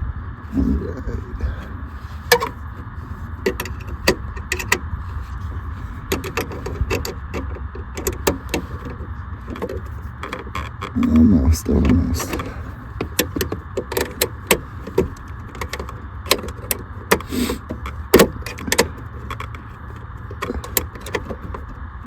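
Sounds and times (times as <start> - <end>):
steady low hum: 0.0 - 22.0
metal clicks of tools on bracket: 1.8 - 21.8.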